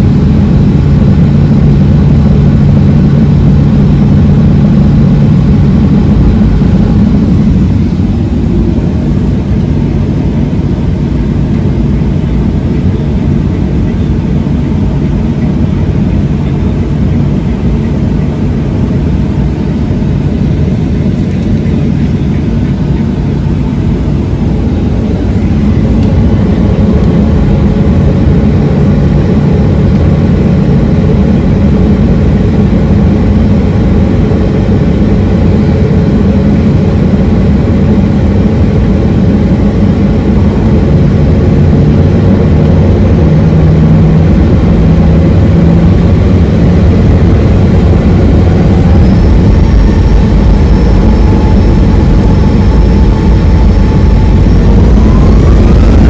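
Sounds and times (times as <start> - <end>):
hum rising in pitch: 0.0 - 56.0
jet engine cabin drone: 0.0 - 56.0.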